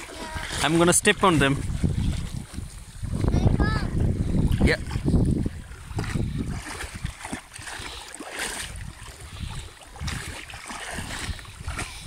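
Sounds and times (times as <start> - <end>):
wading through shallow water: 0.0 - 12.0
wind rumble on microphone: 0.0 - 12.0.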